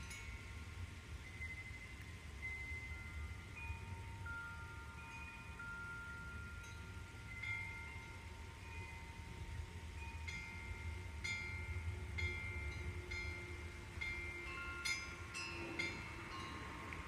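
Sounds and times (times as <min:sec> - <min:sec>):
metal chimes ringing: 0:00.0 - 0:17.0.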